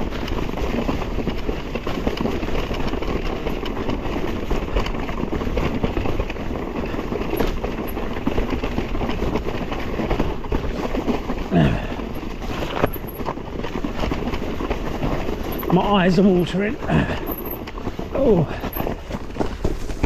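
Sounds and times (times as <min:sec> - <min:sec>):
bike knocks and rattles: 0:00.0 - 0:20.0
tyres rumbling on rocky trail: 0:00.0 - 0:20.0.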